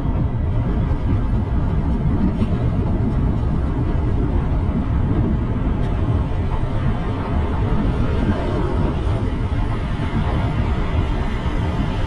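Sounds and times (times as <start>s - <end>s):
bike road noise: 0.0s - 12.0s
passing traffic: 0.0s - 12.0s
wind rumble on microphone: 0.0s - 12.0s.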